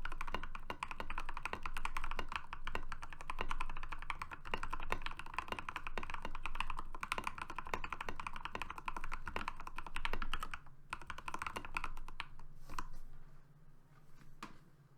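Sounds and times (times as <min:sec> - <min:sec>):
fast typing on mechanical keyboard: 0:00.0 - 0:12.5.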